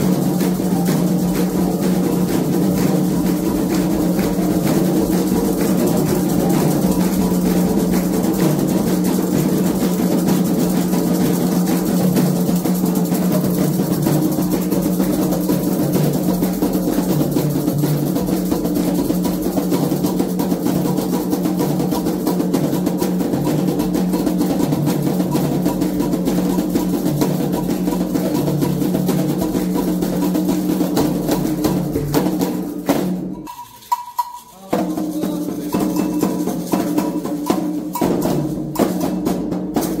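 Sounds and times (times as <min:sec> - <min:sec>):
fast hand drumming: 0:00.0 - 0:40.0.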